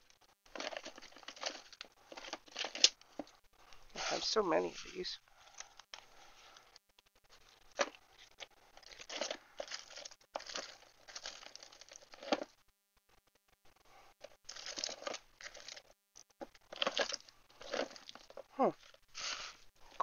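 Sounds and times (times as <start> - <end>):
crinkling of packages: 0.0 - 12.6, 13.2 - 20.0.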